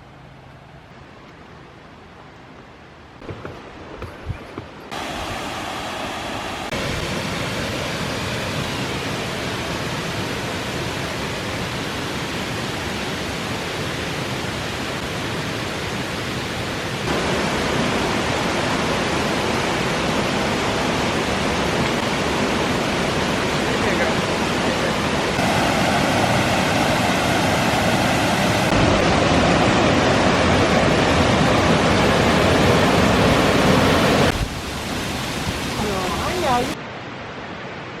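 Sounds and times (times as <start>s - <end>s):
waterfall rushing: 3.2s - 38.0s.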